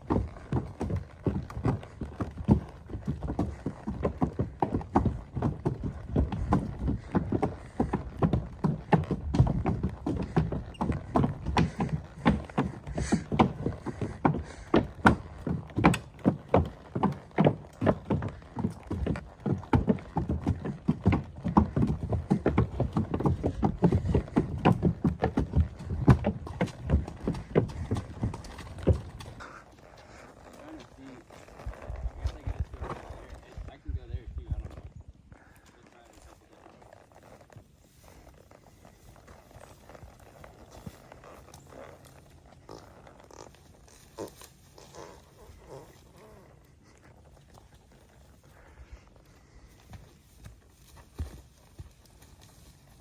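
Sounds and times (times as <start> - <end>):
horse hooves walking: 0.0 - 53.0.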